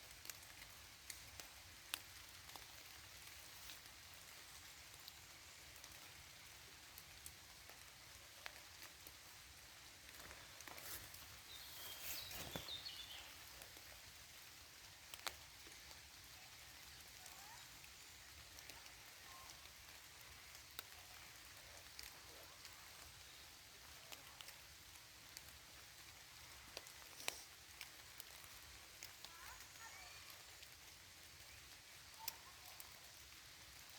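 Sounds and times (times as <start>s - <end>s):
light rain patter: 0.0s - 33.9s.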